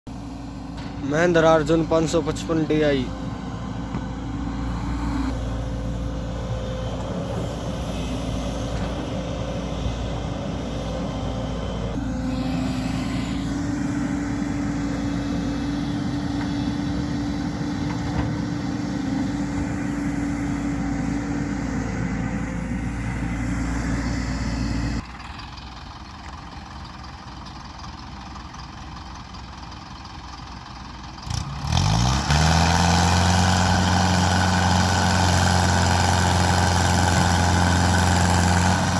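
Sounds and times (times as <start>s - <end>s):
tractor diesel engine running: 0.1s - 38.9s.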